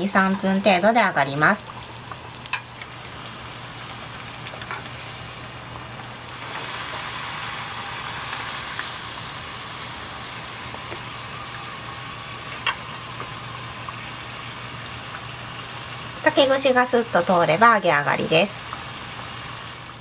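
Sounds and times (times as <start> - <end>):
tempura sizzling in oil: 0.0 - 20.0.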